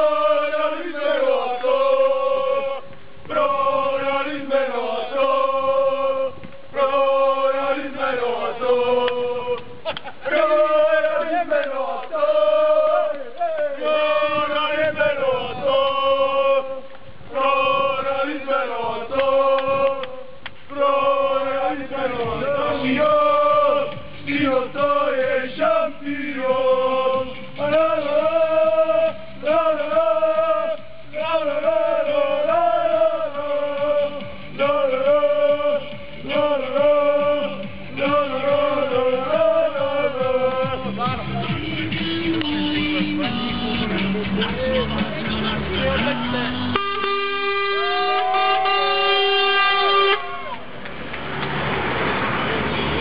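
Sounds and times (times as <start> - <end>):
men singing a football chant: 0.0 - 46.8.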